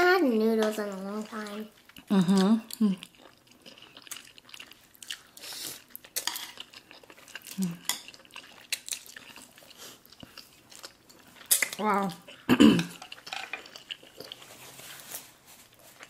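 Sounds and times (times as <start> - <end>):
people slurping and chewing noodles: 0.2 - 16.0.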